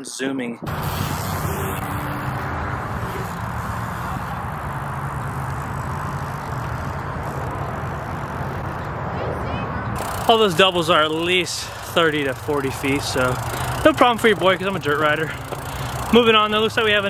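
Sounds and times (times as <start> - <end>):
outdoor background roar: 0.6 - 17.0.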